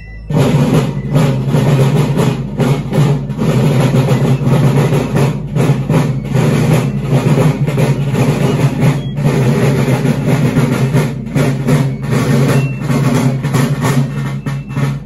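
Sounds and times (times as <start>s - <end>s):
field drums beating march rhythm: 0.0s - 15.0s.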